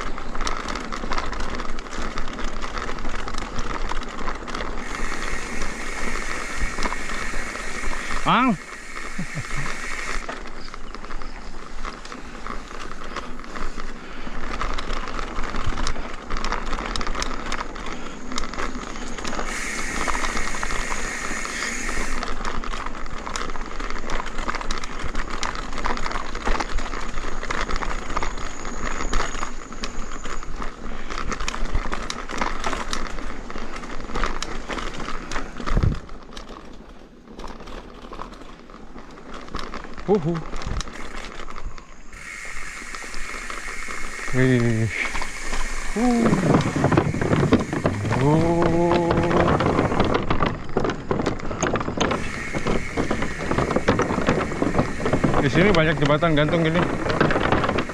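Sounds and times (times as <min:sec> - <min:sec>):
wind rumbling on microphone: 0:00.0 - 0:36.4, 0:39.8 - 0:57.9
bike tyres rattling on gravel: 0:00.0 - 0:57.9.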